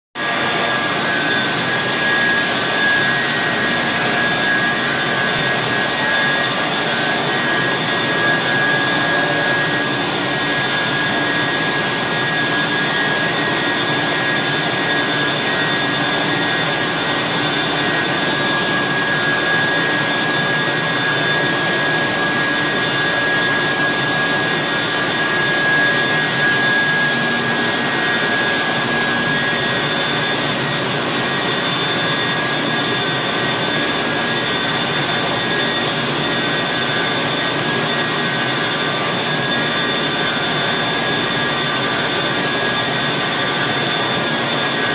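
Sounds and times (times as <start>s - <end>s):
mixer rushing with high whine: 0.2s - 44.9s.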